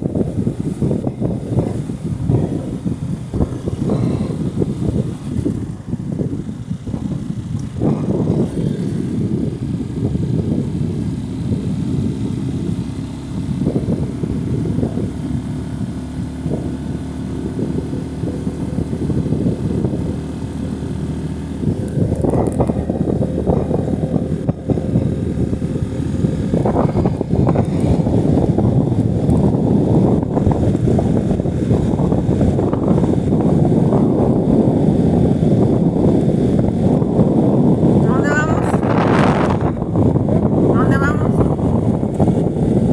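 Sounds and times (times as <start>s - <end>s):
motorcycle engine drone: 0.0s - 42.9s
wind buffeting microphone: 0.0s - 42.9s.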